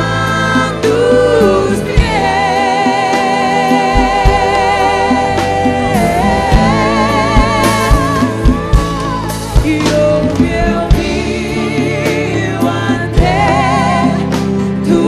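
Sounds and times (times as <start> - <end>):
backing singers: 0.0 - 15.0
live band with drums: 0.0 - 15.0
woman singing with vibrato: 0.0 - 15.0.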